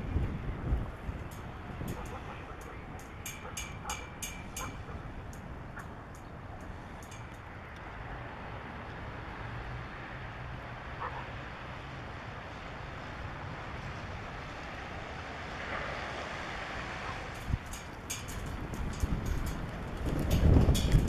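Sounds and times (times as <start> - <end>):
wind blowing across microphone: 0.0 - 10.6, 12.2 - 21.0.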